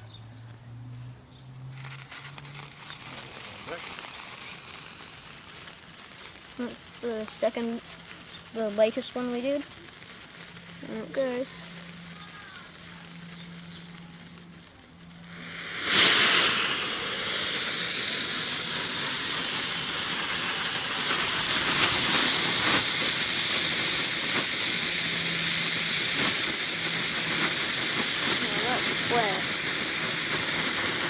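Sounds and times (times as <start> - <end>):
crackles: 0.0 - 31.0
firework burning hiss: 1.3 - 31.0
firework igniting whoosh: 1.7 - 31.0.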